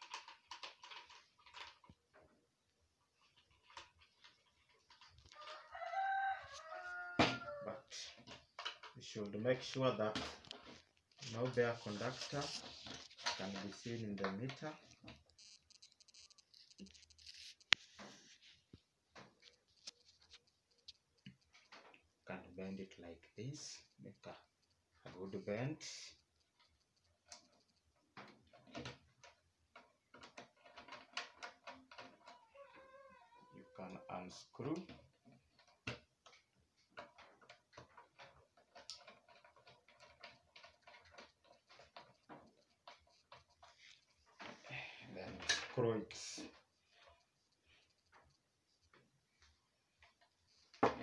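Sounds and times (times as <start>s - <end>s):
hands rustling wires: 0.0s - 22.9s, 23.6s - 51.0s.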